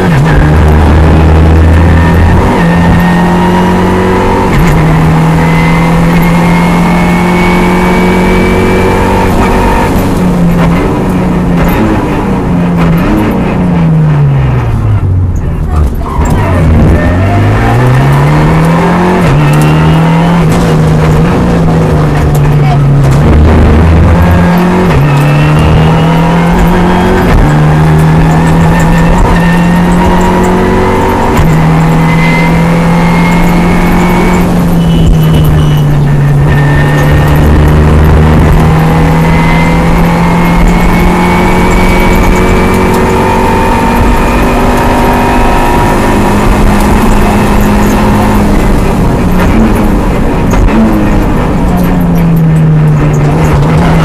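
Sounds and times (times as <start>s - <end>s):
car engine under load: 0.0s - 54.0s
road and tyre noise: 0.0s - 54.0s.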